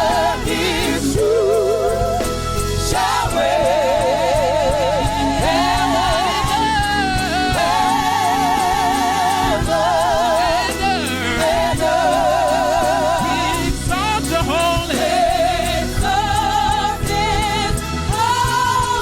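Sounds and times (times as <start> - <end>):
band with bass and percussion: 0.0 - 19.0
voices singing gospel: 0.0 - 19.0.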